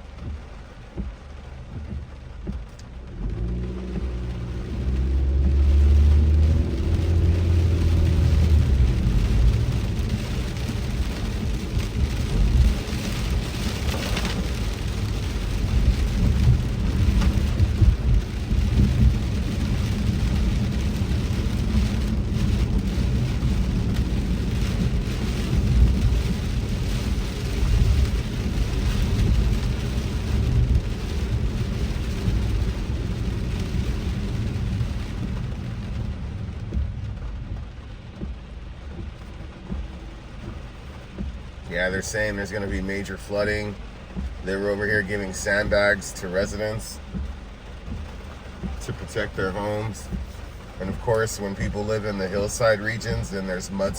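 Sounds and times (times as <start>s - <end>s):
car and road rumble: 0.0s - 53.9s
heavy rain on car: 0.0s - 53.9s.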